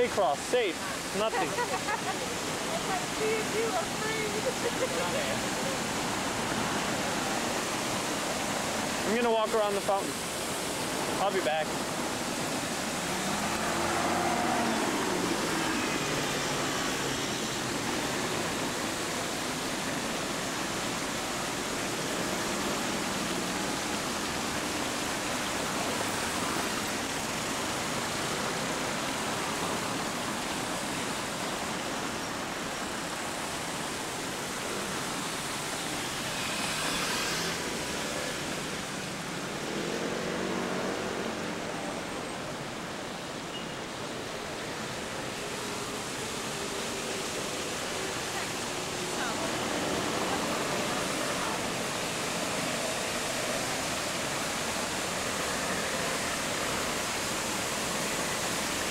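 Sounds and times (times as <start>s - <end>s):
cars and scooters passing: 0.0s - 58.9s
fountain water rushing: 0.0s - 58.9s.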